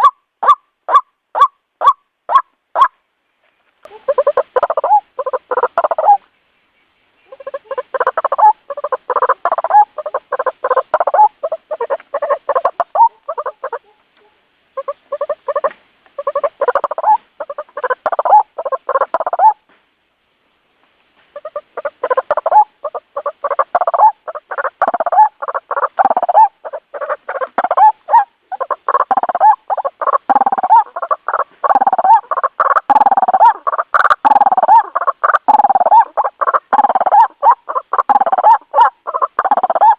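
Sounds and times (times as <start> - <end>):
waterhen calling: 0.0 - 3.0, 3.8 - 19.6, 21.2 - 39.9.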